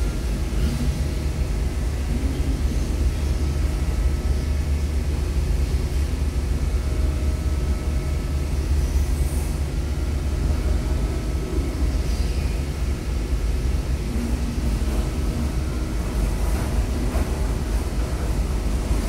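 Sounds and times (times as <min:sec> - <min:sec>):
faint steady hum: 0:00.0 - 0:19.0
vehicle engine rumbling: 0:00.0 - 0:19.0.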